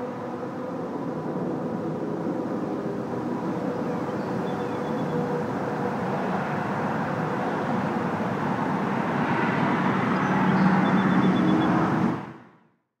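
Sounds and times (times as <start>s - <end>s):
road traffic passing: 0.0s - 12.8s.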